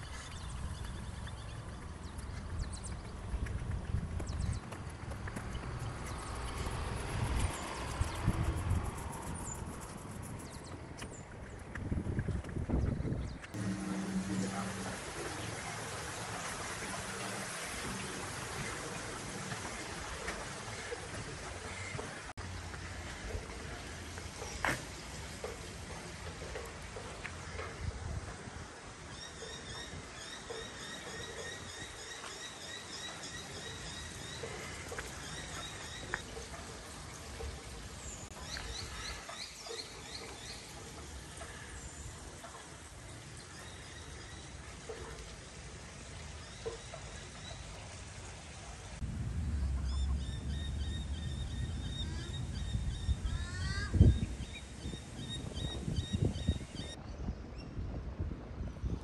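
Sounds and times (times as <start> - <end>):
water noise: 0.0 - 57.0.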